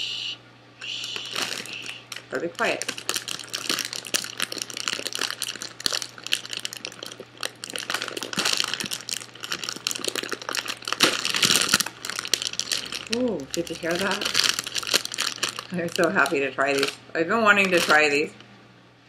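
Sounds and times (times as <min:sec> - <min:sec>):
snack bag crackling: 0:00.8 - 0:18.4.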